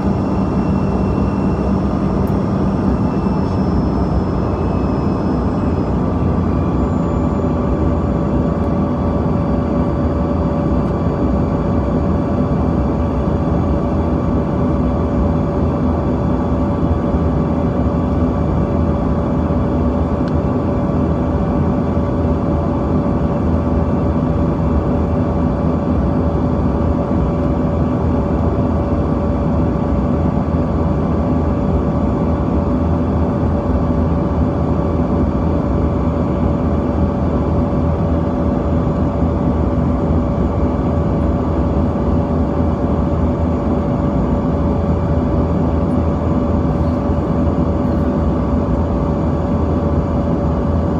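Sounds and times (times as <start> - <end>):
aircraft cabin engine drone: 0.0 - 50.9
constant whining engine tones: 0.0 - 50.9.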